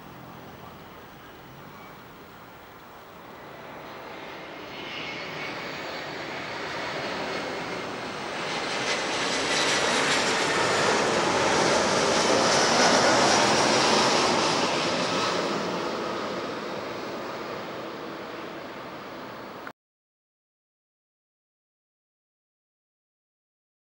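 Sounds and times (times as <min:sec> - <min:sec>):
jet airliner roar: 0:00.0 - 0:19.7.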